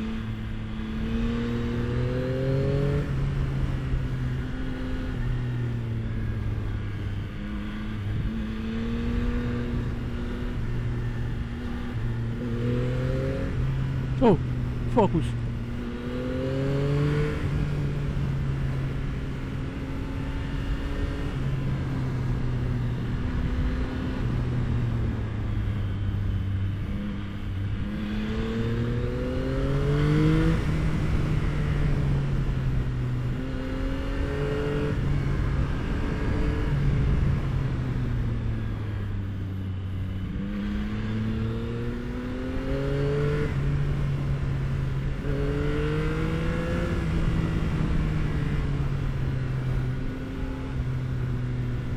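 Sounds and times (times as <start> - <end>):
motorcycle engine: 0.0 - 51.9.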